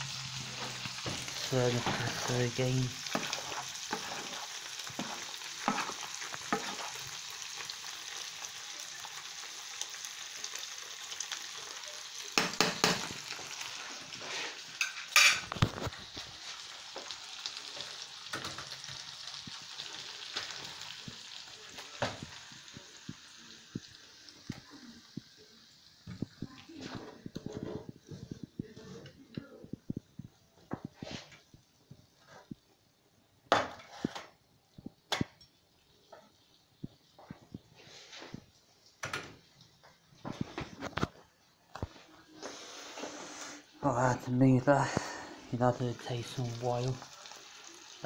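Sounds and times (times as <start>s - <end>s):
food sizzling in a pan: 0.0s - 48.0s.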